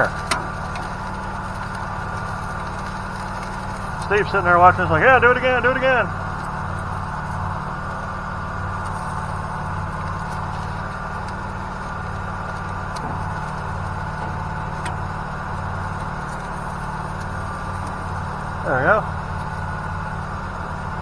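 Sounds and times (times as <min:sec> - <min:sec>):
generator engine humming: 0:00.0 - 0:21.0.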